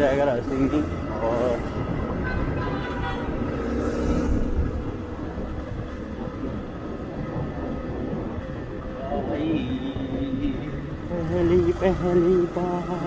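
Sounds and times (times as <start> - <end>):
tyre and wind noise: 0.0 - 13.0.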